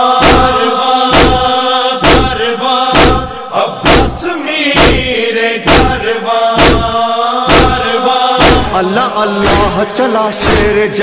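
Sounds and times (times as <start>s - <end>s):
chorus chanting a drone: 0.0s - 11.0s
wavering vocal line: 0.0s - 11.0s
heavy chest-beating thumps: 0.2s - 8.8s, 9.4s - 9.8s.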